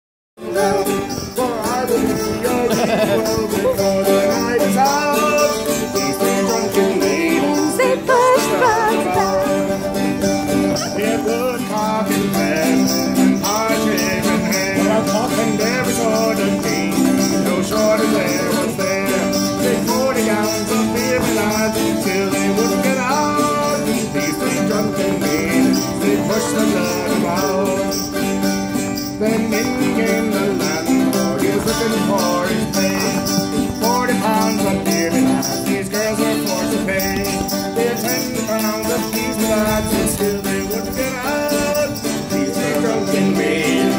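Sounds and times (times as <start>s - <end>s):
acoustic folk music on guitars: 0.4s - 43.9s.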